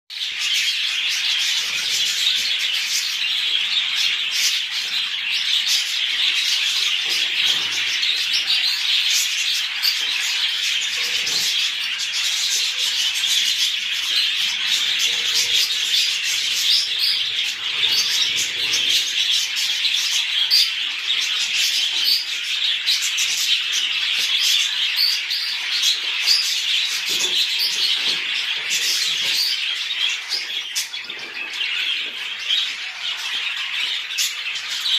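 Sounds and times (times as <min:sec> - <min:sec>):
budgerigars chattering and chirping: 0:00.1 - 0:34.9.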